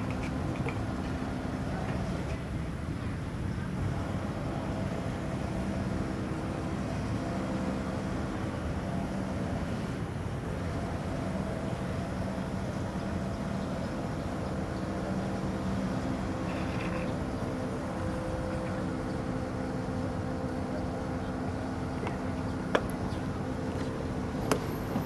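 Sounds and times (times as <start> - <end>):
road and wind rumble: 0.0 - 25.0.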